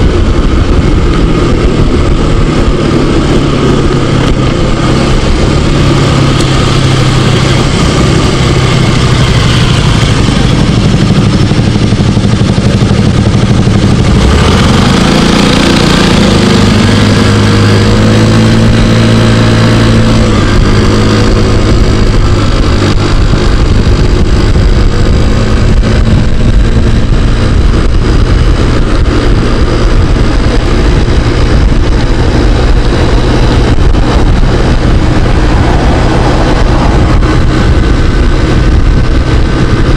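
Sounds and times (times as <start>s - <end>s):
scooter engine running: 0.0s - 39.9s
wind rush on microphone: 0.0s - 39.9s.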